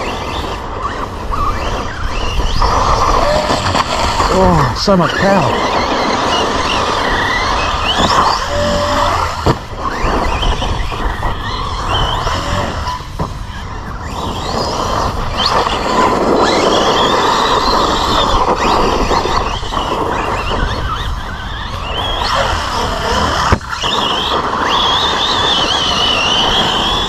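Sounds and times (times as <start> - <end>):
rc truck motor whining: 0.0 - 27.0
steady rush of noise: 0.0 - 27.0.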